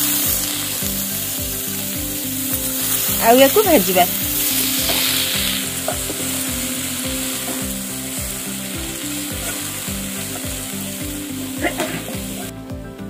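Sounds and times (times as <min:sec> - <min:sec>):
spices sizzling in oil: 0:00.0 - 0:12.7.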